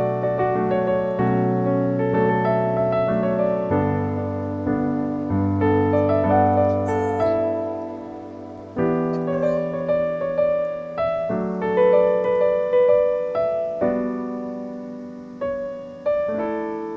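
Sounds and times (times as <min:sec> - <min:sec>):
slow piano music: 0:00.0 - 0:16.9.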